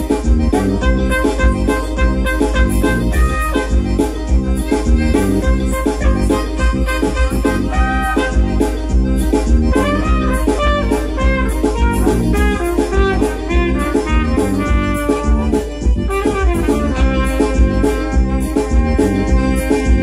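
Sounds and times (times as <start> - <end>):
backing track with beat and bass: 0.0 - 20.0
trumpet melody: 0.0 - 20.0.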